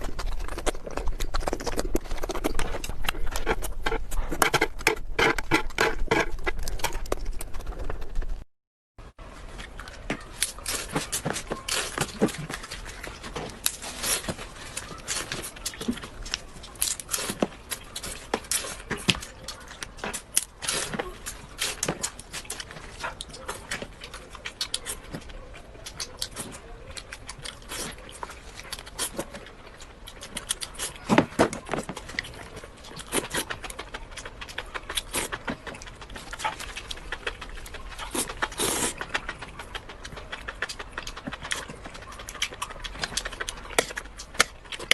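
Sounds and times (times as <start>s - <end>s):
person chewing with mouth smacks: 0.0s - 8.4s, 9.6s - 44.9s.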